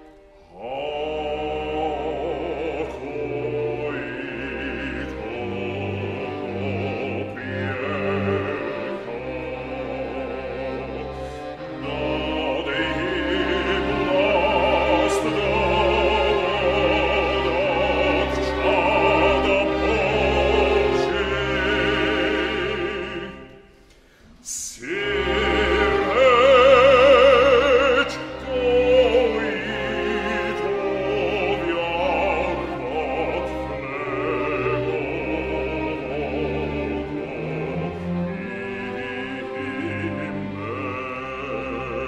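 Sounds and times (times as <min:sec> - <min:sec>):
string orchestra: 0:00.0 - 0:42.0.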